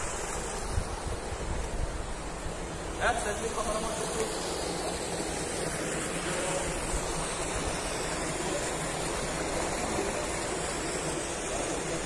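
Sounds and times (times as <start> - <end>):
water rushing into stone basin: 0.0 - 12.0.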